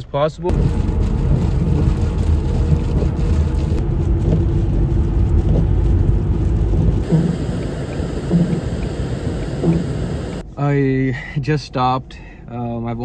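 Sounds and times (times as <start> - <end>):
road and tyre noise in car: 0.0 - 11.0.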